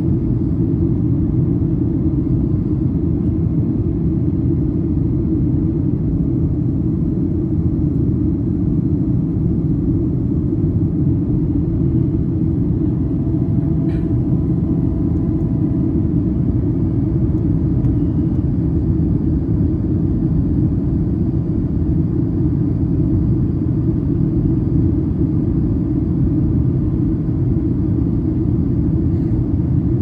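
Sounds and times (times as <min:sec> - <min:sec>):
airplane cabin roar: 0:00.0 - 0:30.0.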